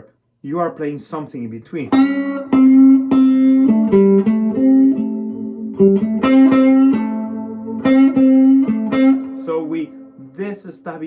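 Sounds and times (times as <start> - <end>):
guitar playing blues phrase: 0.5 - 11.0.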